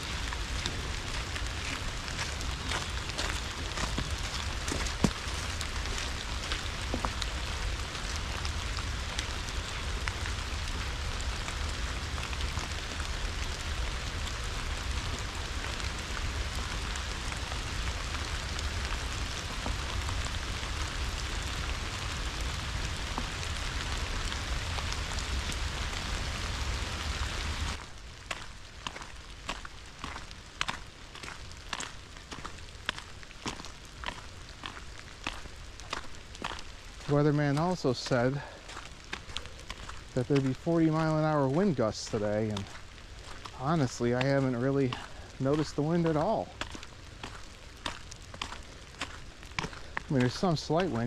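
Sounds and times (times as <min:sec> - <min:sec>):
rain pattering: 0:00.0 - 0:51.0.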